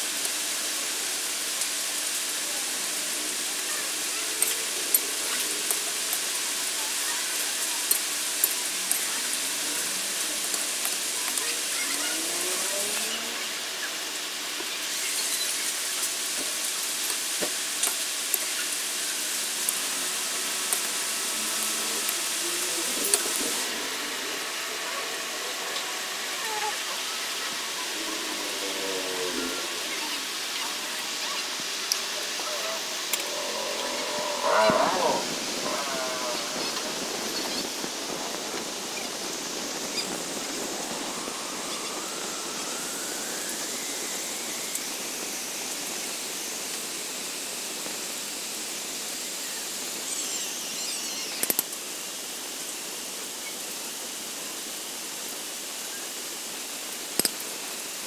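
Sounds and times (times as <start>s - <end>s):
liquid simmering with sizzling hiss: 0.0s - 58.0s.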